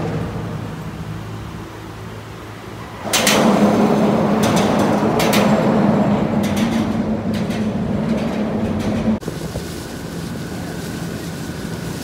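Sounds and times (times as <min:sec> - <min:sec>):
motorboat engine hum: 0:00.0 - 0:06.4, 0:08.6 - 0:12.0.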